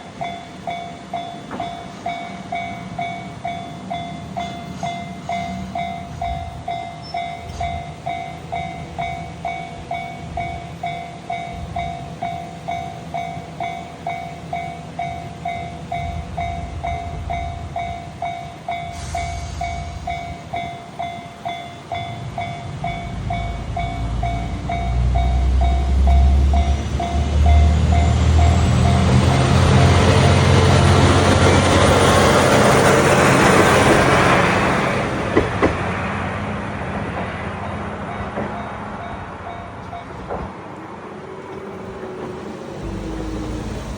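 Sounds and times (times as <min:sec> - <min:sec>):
diesel railcar engine and wheels: 0:00.0 - 0:43.9.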